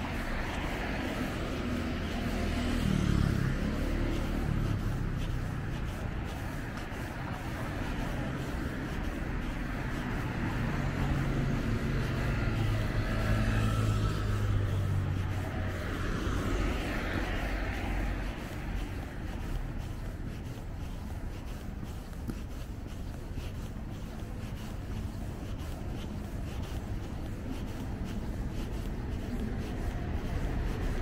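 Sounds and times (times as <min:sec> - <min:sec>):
cars driving past: 0:00.0 - 0:31.0.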